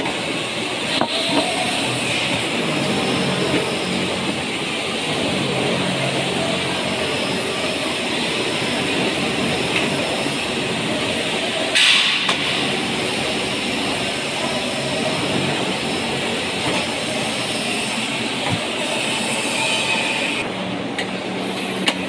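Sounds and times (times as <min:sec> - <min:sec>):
construction site rumble: 0:00.0 - 0:22.0.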